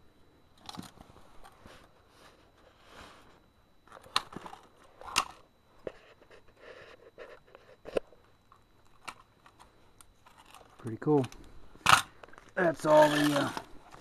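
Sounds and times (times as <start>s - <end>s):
rustling of handled parts: 0.6s - 14.0s.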